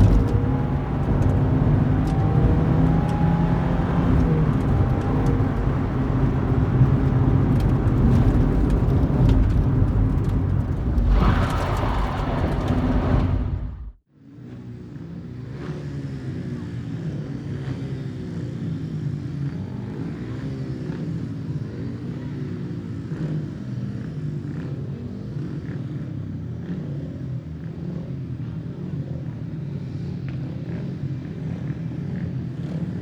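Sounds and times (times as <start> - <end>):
racing vehicle engines: 0.0 - 33.0.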